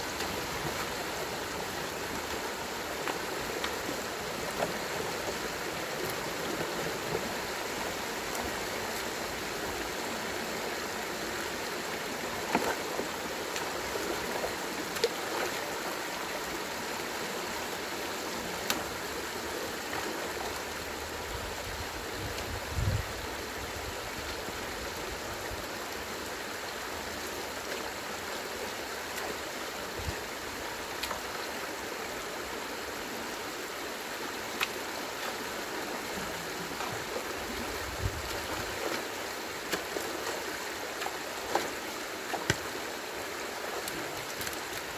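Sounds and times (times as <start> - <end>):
stream water rushing through a dam: 0.0 - 44.9.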